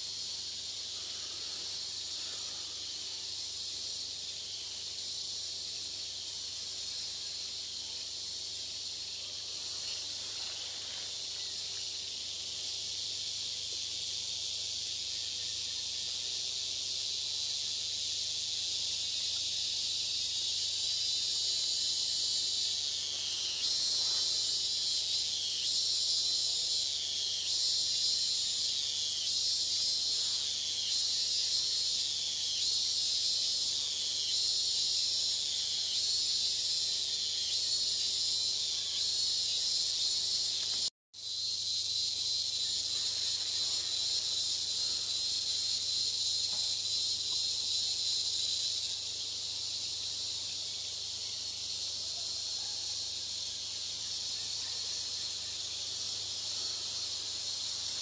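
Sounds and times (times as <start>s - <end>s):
insect chorus shrilling: 0.0s - 58.0s.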